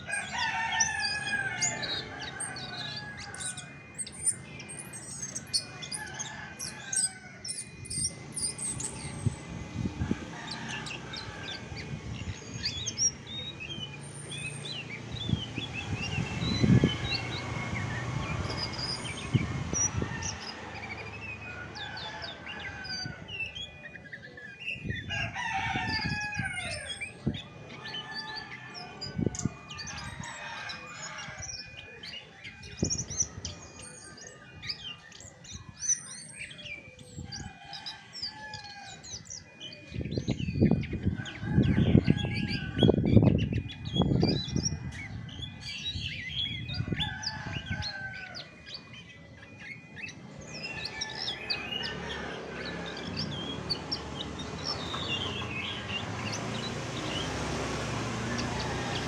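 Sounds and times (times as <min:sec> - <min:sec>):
thrush singing: 0:00.0 - 0:59.0.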